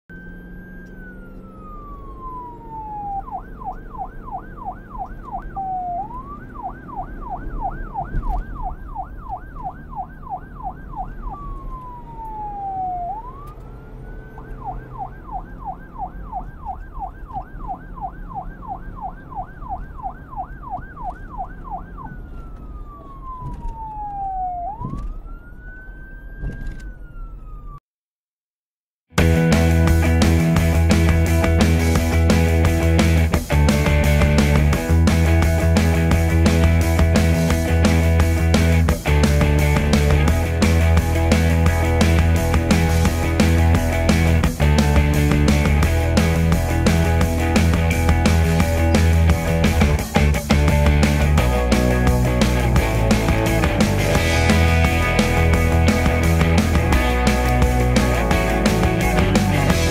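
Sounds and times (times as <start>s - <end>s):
police siren wailing and yelping: 0.1s - 27.8s, 29.2s - 59.9s.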